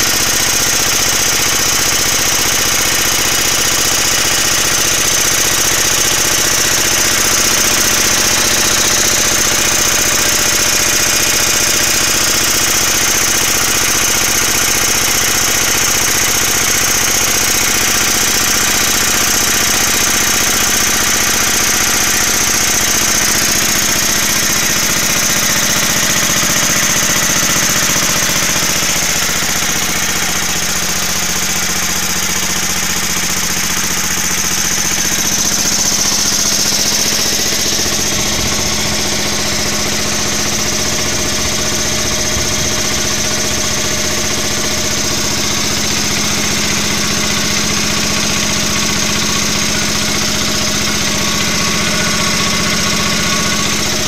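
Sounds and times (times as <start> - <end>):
generator engine running steadily: 0.0 - 54.0.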